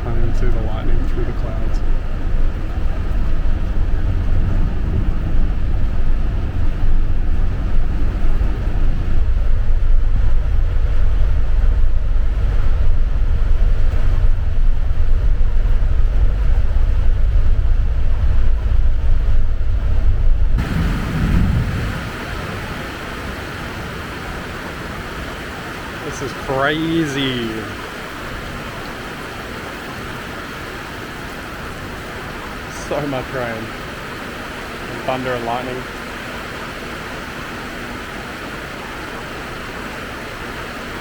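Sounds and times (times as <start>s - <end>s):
wind buffeting microphone: 0.0s - 35.0s
heavy rain: 0.0s - 41.0s.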